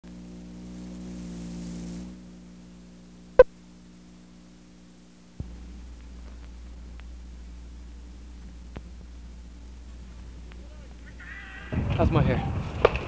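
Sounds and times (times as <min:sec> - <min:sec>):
light hiss: 0:00.0 - 0:11.8
electrical hum: 0:00.0 - 0:13.0.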